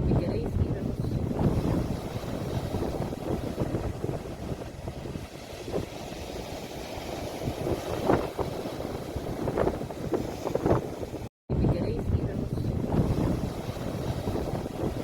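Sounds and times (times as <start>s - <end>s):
sea waves washing ashore: 0.0s - 11.3s, 12.0s - 15.0s
wind buffeting microphone: 0.0s - 15.0s.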